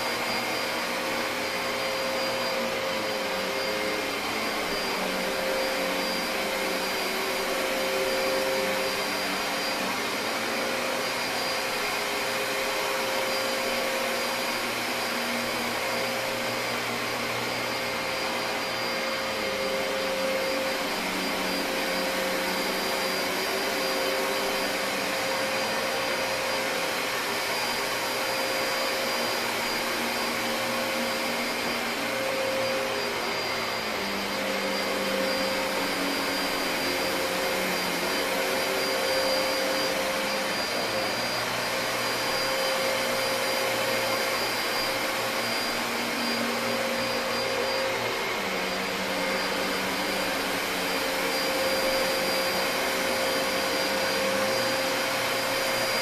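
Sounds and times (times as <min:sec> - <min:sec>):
vacuum cleaner running over carpet: 0:00.0 - 0:56.0.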